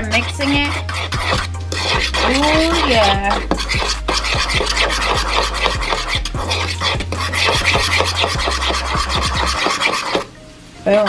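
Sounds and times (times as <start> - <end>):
utensil scraping sauce in bowl: 0.0 - 10.3
background music bass line: 0.0 - 10.5.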